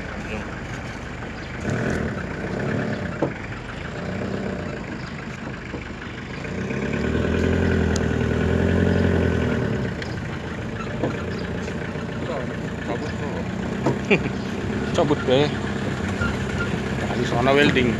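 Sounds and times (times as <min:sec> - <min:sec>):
motor vehicle engine running: 0:00.0 - 0:17.9.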